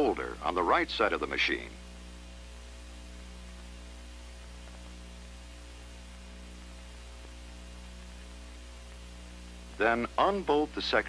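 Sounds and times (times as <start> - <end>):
mains hum with faint hiss: 0.0 - 11.0.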